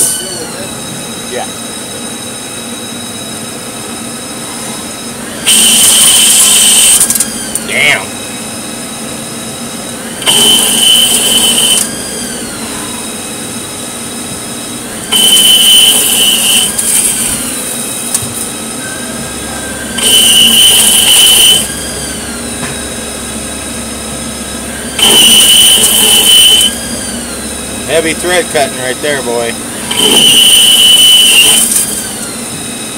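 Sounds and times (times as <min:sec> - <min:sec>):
lathe tool screeching in steel: 0:00.0 - 0:02.0, 0:04.3 - 0:09.2, 0:10.0 - 0:13.6, 0:14.9 - 0:18.2, 0:18.8 - 0:32.9
machine running steadily: 0:00.0 - 0:32.9
short falling whine: 0:00.0 - 0:32.9.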